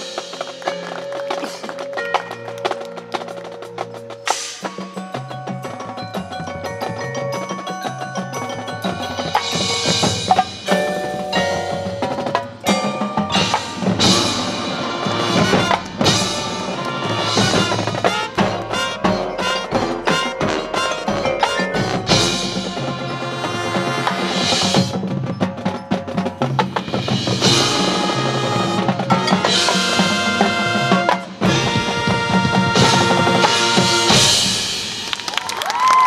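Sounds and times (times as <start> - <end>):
drum and mallet percussion hits: 0.0 - 35.5
marching band playing: 0.0 - 36.0.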